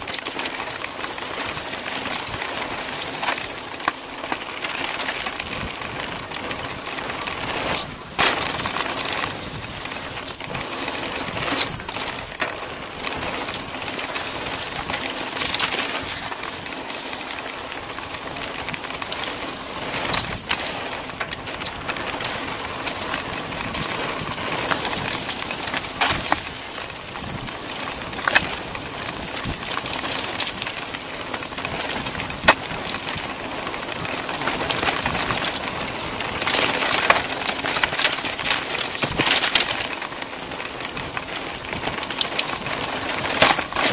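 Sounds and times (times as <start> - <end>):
bike rattling over ground: 0.0 - 43.9.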